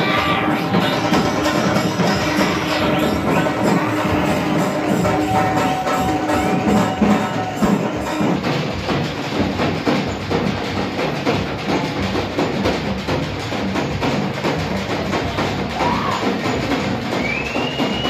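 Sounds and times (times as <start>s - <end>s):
music with fast drumming: 0.0s - 18.0s.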